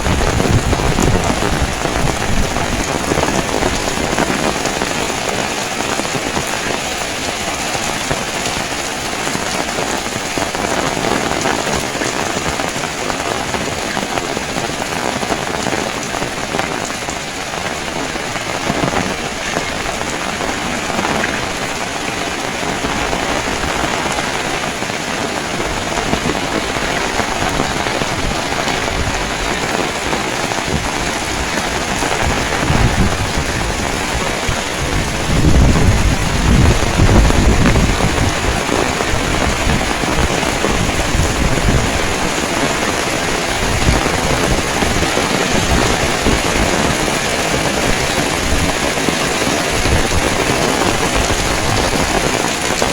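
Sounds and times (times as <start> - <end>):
heavy rain on hard surfaces: 0.0 - 52.9.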